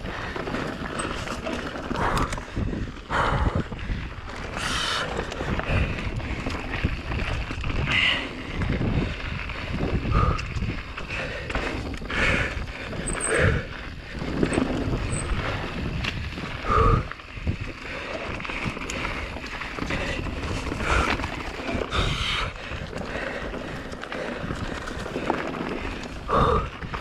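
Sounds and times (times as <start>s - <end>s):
bike rattling and knocking: 0.0s - 27.0s
tyres rolling on dirt: 0.0s - 27.0s
wind buffeting microphone: 0.0s - 27.0s.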